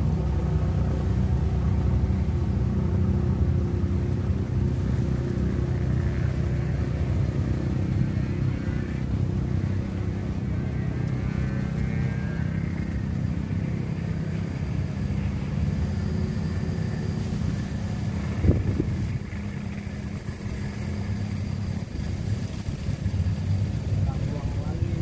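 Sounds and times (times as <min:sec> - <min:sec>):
motor vehicle engines humming: 0:00.0 - 0:25.0.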